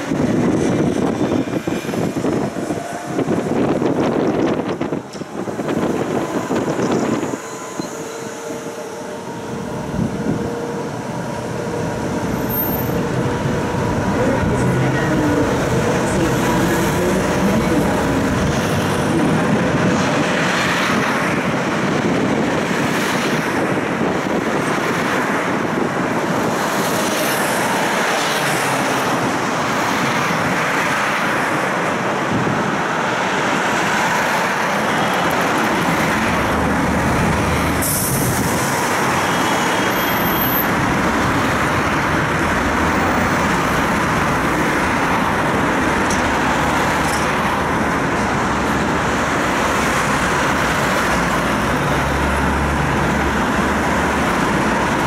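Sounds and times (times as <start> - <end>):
passing road traffic: 0.0 - 55.0
tram wheels on rails: 0.0 - 55.0.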